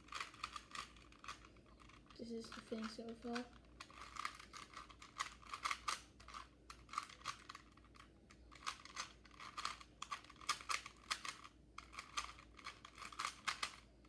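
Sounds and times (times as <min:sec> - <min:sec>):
puzzle cube plastic clicking: 0:00.0 - 0:13.9.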